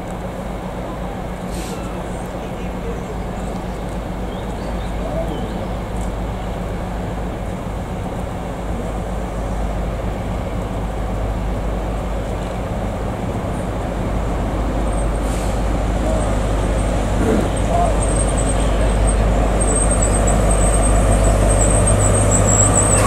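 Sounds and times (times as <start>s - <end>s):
train diesel engine running: 0.0s - 23.0s
train rumbling on rails: 0.0s - 23.0s.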